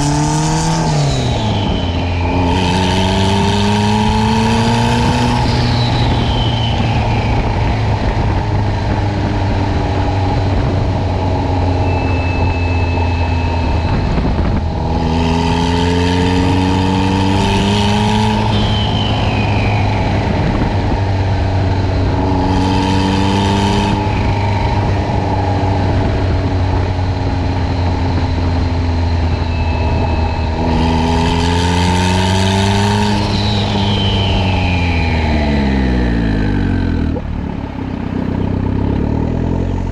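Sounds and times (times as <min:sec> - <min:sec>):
car engine accelerating: 0:00.0 - 0:39.9
turbo whistle: 0:00.1 - 0:08.5, 0:11.0 - 0:37.1.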